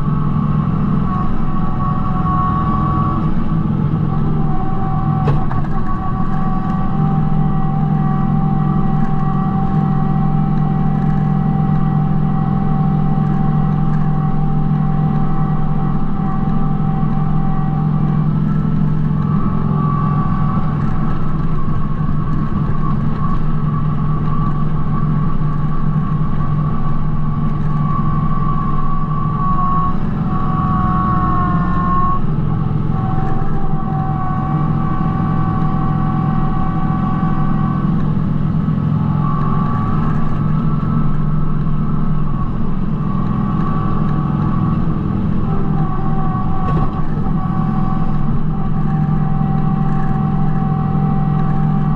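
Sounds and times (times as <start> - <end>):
high wavering whine: 0.0 - 51.9
tractor diesel engine running: 0.0 - 51.9.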